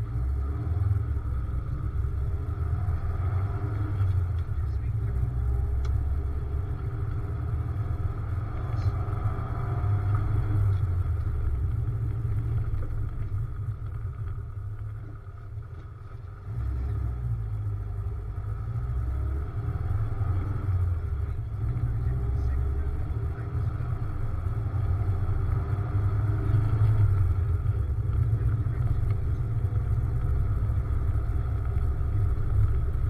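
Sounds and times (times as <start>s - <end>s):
car engine rumbling: 0.0s - 33.0s.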